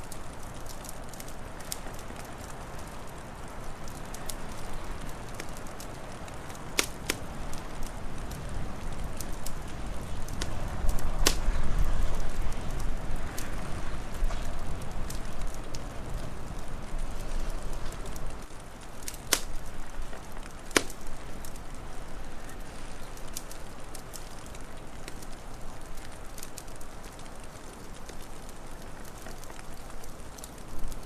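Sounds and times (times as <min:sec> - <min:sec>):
wood fire crackling: 0:00.0 - 0:31.0
fire pops: 0:00.1 - 0:31.0.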